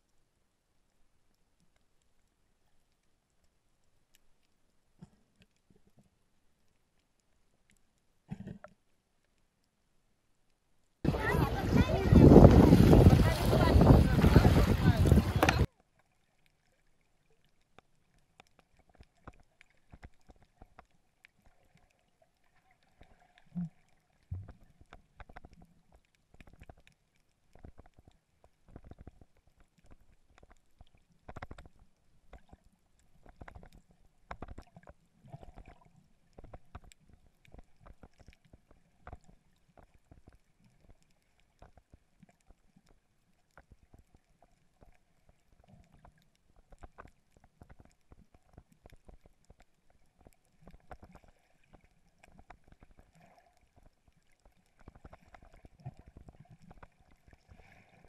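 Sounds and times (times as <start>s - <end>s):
low rumble of moving water: 0.0s - 58.0s
muffled underwater clicks: 1.3s - 9.8s, 10.4s - 15.7s, 17.5s - 21.9s, 23.0s - 57.5s.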